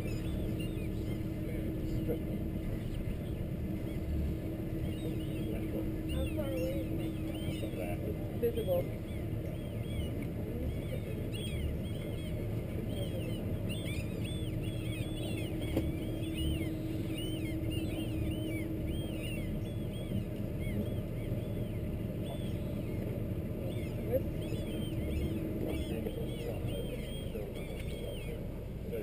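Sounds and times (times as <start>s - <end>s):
birds chirping: 0.0s - 29.0s
diesel engine running: 0.0s - 29.0s.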